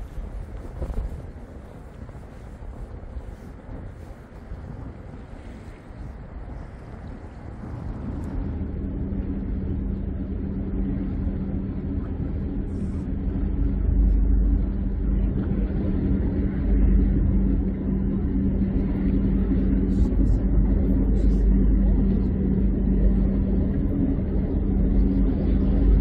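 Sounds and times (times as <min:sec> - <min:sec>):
ferry engine droning: 0:00.0 - 0:26.0.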